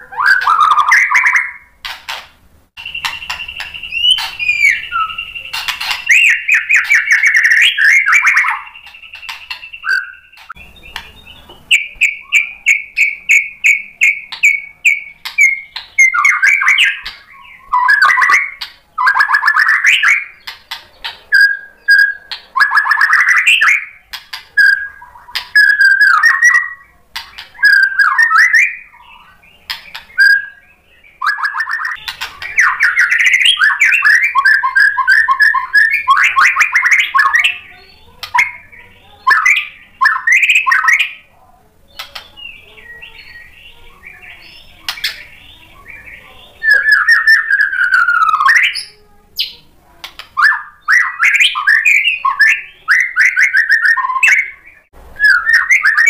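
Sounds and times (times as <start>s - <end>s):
bird singing whistled song: 0.0s - 1.7s, 2.8s - 41.3s, 42.0s - 49.6s, 50.4s - 56.0s.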